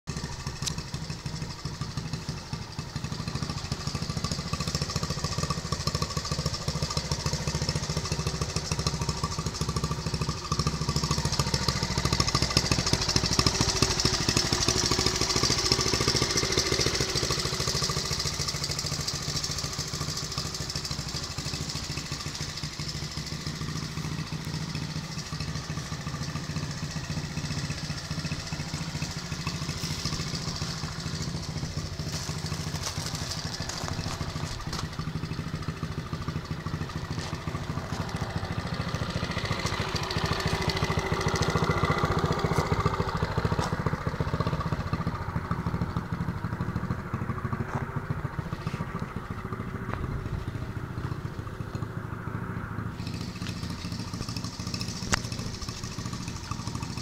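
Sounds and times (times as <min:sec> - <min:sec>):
small engine idling: 0:00.0 - 0:57.0.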